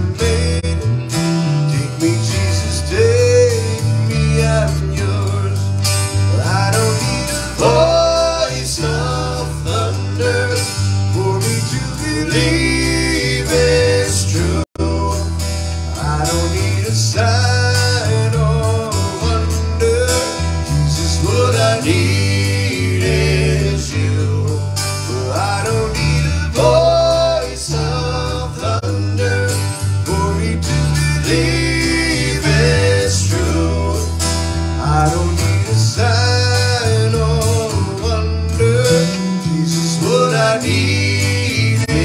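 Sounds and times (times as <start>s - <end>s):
country gospel band music: 0.0s - 42.0s.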